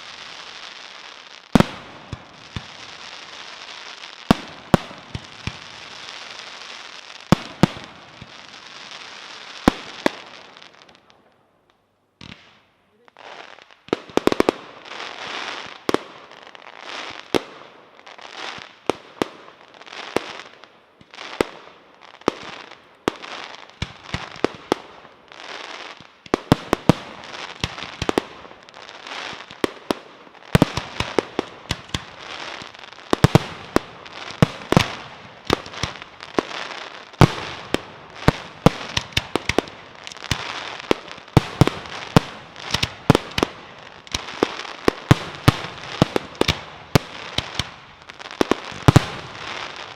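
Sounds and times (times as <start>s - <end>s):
firework bangs: 0.0s - 10.8s, 20.0s - 49.9s
firework crackling: 0.0s - 11.2s, 12.2s - 49.9s.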